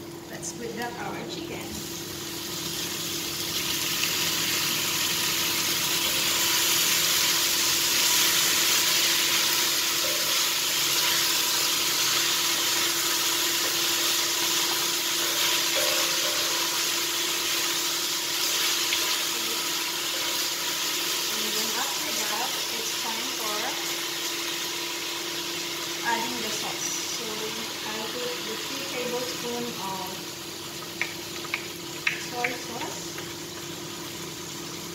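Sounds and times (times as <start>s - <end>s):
meat sizzling in a wok: 1.4s - 34.9s.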